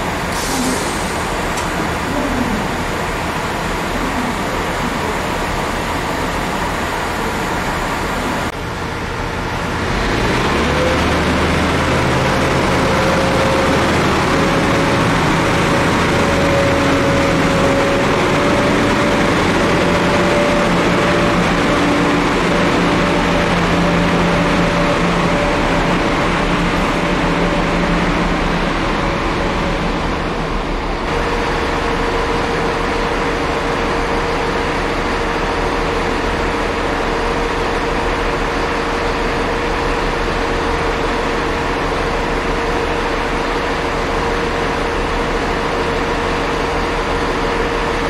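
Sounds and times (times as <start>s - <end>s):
diesel train engine running: 0.0s - 48.0s.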